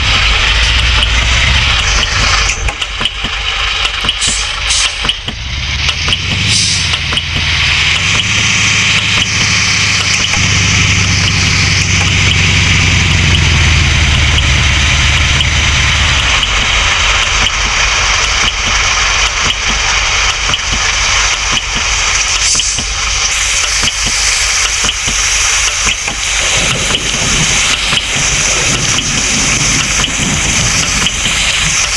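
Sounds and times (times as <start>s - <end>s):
low pulsing: 0.0s - 31.9s
steady hiss: 0.0s - 31.9s
truck engine running: 0.0s - 31.9s.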